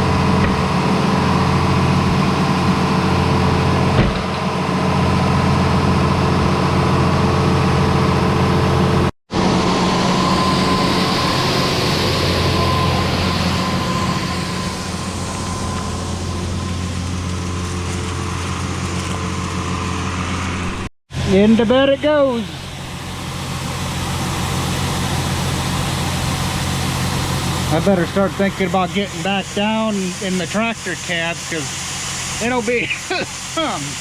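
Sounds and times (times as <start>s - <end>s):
thin steady whine: 0.0s - 34.0s
tractor diesel engine: 0.0s - 34.0s.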